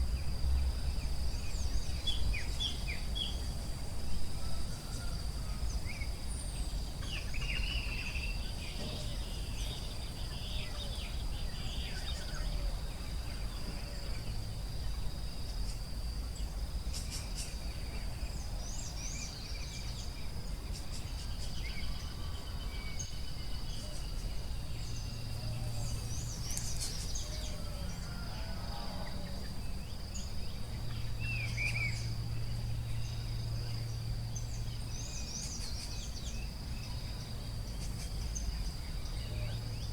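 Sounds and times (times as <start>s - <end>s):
constant low rumble: 0.0s - 39.9s
high insect drone: 0.0s - 39.9s.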